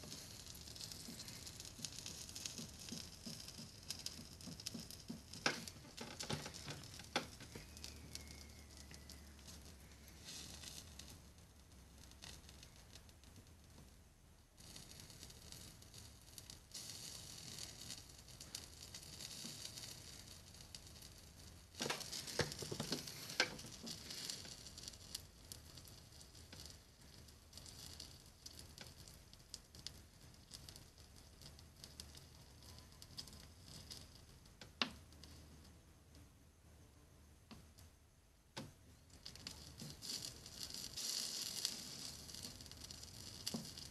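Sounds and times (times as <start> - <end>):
solder sizzling and crackling: 0.0 - 43.9.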